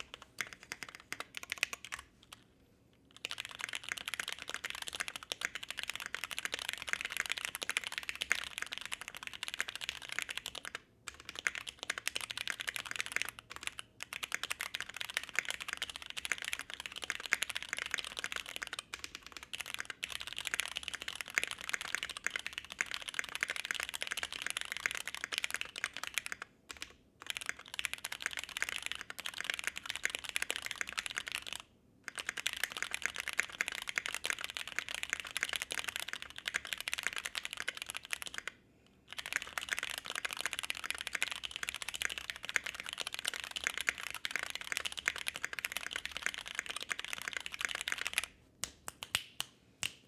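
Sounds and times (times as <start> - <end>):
fast typing on mechanical keyboard: 0.0 - 2.4, 3.1 - 48.3.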